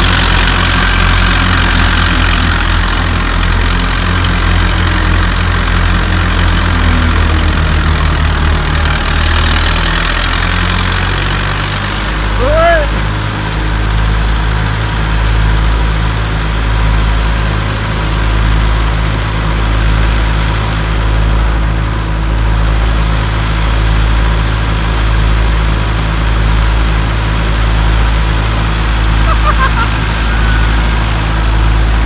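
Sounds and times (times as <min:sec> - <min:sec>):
thresher rushing whir: 0:00.0 - 0:32.0
tractor diesel engine running: 0:00.0 - 0:32.0.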